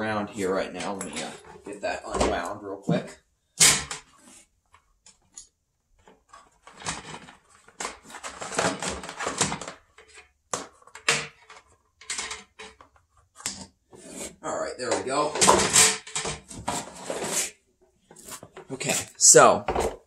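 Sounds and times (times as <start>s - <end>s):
cord rustling and scraping: 0.4s - 2.6s, 3.6s - 20.0s.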